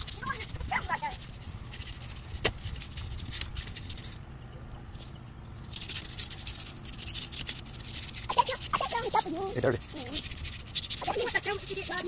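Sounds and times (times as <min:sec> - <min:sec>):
sanding pad scraping: 0:00.0 - 0:04.2, 0:05.0 - 0:12.0.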